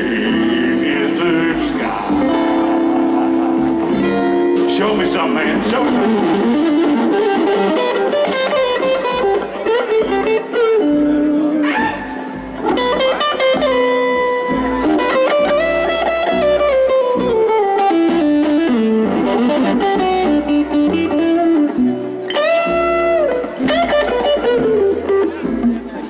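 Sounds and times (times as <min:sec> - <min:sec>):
bass and drums: 0:00.0 - 0:07.6, 0:08.2 - 0:26.0
electric guitar solo: 0:00.0 - 0:26.0.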